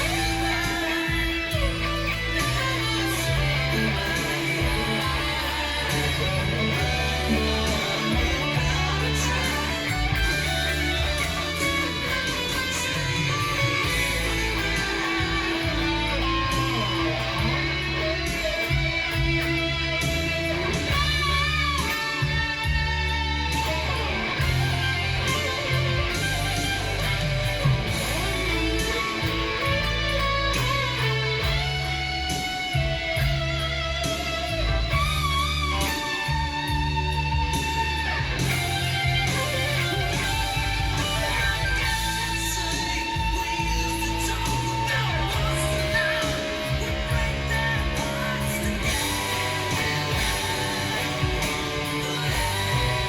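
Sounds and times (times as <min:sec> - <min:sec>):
backing track bass and drums: 0:00.0 - 0:53.0
guitar melody with vibrato: 0:00.0 - 0:53.0.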